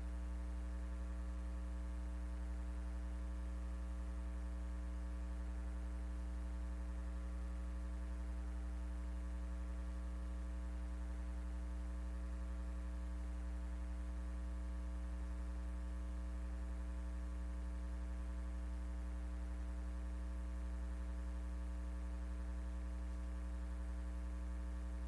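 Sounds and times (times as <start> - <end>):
buzzy electrical mains hum: 0.0 - 25.0.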